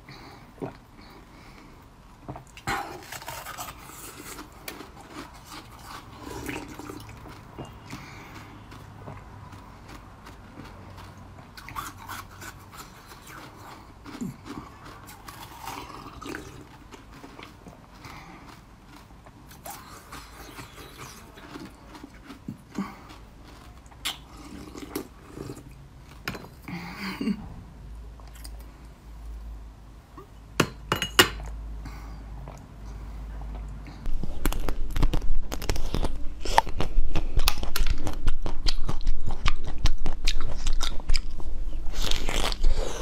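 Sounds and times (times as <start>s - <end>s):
person chewing food: 0.1s - 26.8s, 31.4s - 43.0s.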